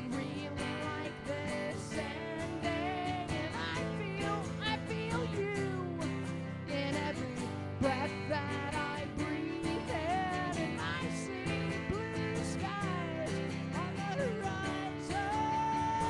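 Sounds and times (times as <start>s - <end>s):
electric guitar: 0.0s - 16.0s
lead vocal singing: 0.0s - 16.0s
strummed acoustic guitar: 0.0s - 16.0s.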